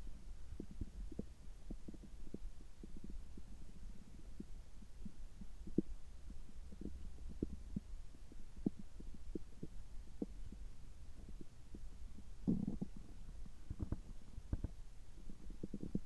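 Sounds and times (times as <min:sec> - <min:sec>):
stomach gurgles and pops: 0:00.2 - 0:16.0.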